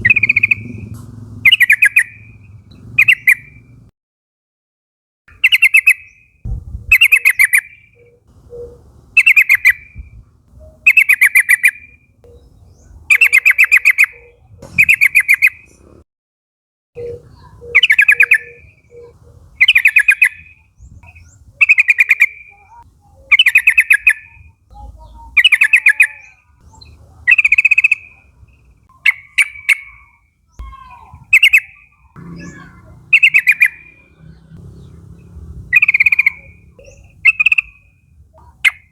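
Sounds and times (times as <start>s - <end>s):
bird chattering song: 0.0s - 3.9s, 5.3s - 15.9s, 17.0s - 38.9s.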